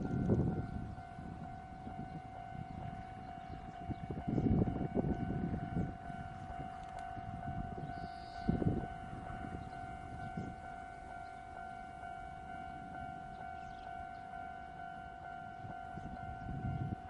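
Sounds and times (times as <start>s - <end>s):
low rumbling gusts: 0.0s - 14.3s, 15.5s - 17.0s.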